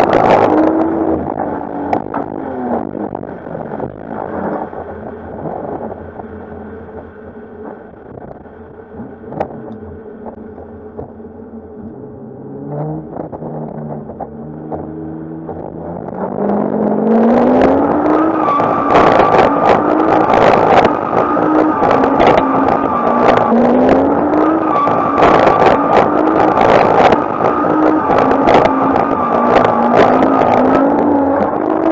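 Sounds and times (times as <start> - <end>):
car engine revving: 0.0 - 31.9
engine crackling cut-outs: 0.0 - 31.9.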